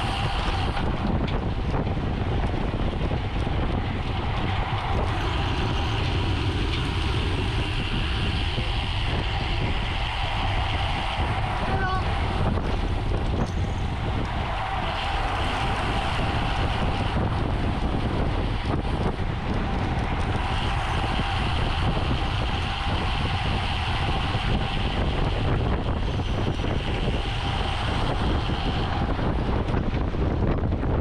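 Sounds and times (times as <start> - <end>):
faint steady whine: 0.0 - 31.0
tyres rumbling on road: 0.0 - 31.0
wind buffeting microphone: 0.0 - 31.0.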